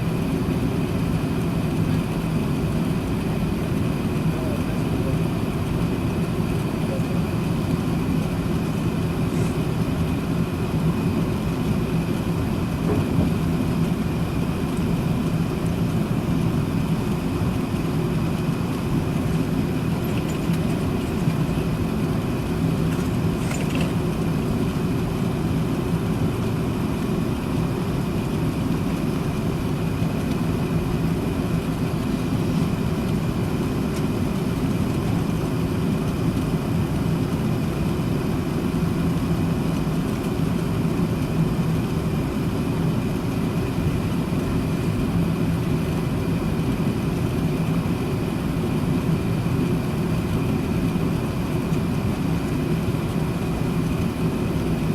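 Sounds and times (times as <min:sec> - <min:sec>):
aircraft engines rumbling: 0:00.0 - 0:54.9.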